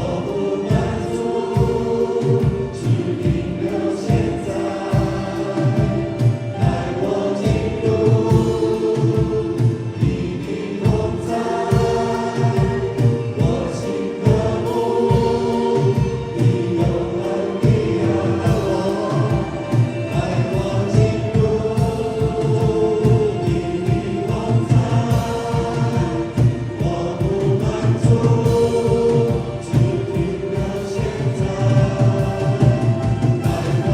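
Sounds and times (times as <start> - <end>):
band with keyboard playing: 0.0 - 33.9
voices singing together: 0.0 - 33.9.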